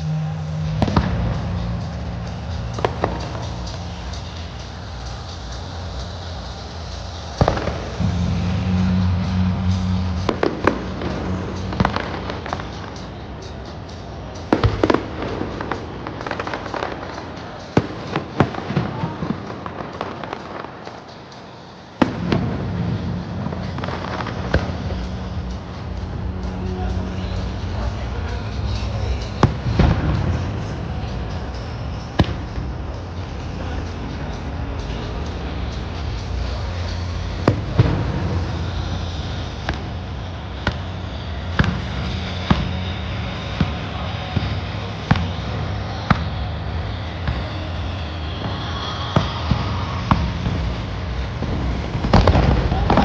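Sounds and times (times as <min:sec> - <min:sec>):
fireworks bangs: 0:00.0 - 0:53.0
steady low rumble: 0:00.0 - 0:53.0
crackling fireworks pops: 0:02.5 - 0:08.2, 0:09.9 - 0:26.1, 0:28.5 - 0:53.0.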